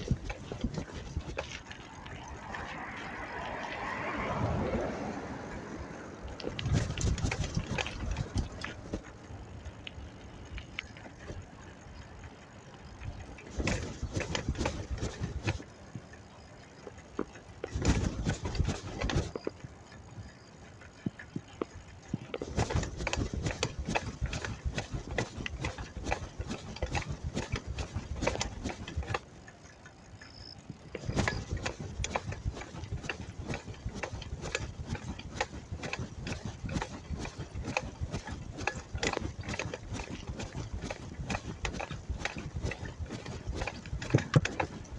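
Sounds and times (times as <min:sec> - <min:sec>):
bicycle clattering and rattling: 0:00.0 - 0:44.9.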